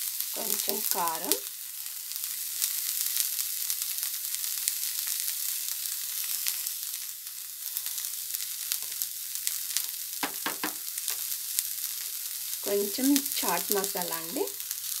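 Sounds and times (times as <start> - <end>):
corn sizzling in a pan: 0.0 - 15.0.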